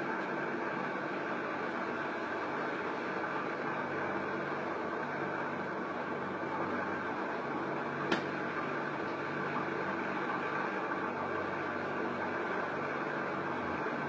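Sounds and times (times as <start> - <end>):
electric fan whirring: 0.0 - 14.0.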